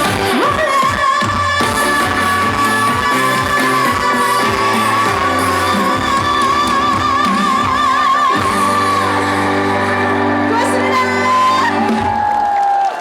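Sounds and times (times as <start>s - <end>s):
pop band with drum beat: 0.0s - 12.8s.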